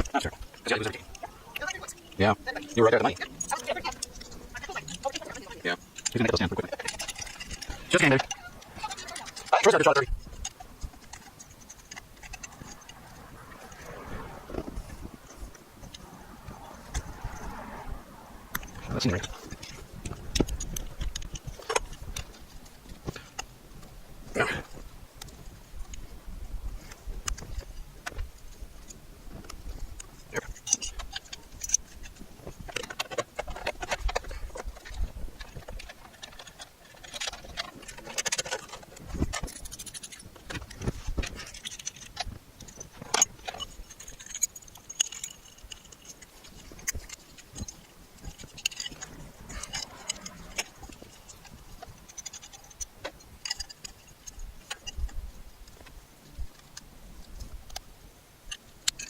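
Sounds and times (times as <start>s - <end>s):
tools clicking and rattling: 0.0s - 17.8s, 18.5s - 26.1s, 26.8s - 57.8s, 58.4s - 59.0s.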